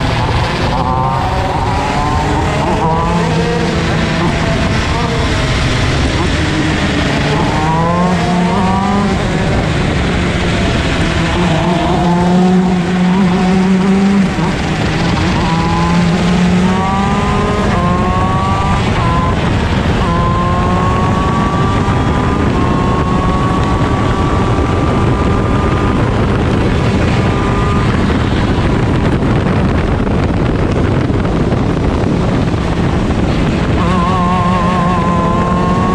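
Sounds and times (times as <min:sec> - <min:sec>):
kart engine accelerating: 0:00.0 - 0:35.9
low drone: 0:00.0 - 0:35.9
other engines: 0:00.0 - 0:35.9
tyre and wind noise: 0:00.0 - 0:35.9.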